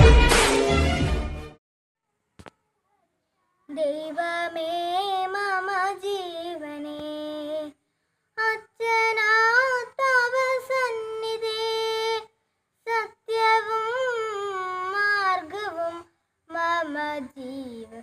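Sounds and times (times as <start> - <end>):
girl singing unaccompanied: 2.8 - 7.8, 8.4 - 18.0.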